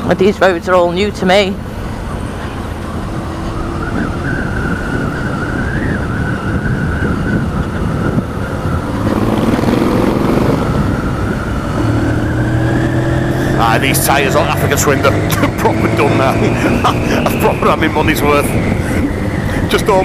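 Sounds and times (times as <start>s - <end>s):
motorcycle engine drone: 0.0s - 20.0s
wind rush: 1.3s - 20.0s.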